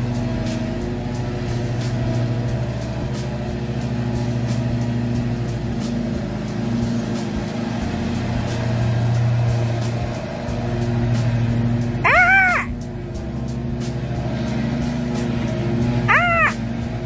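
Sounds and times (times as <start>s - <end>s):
riding mower engine running: 0.0s - 17.0s.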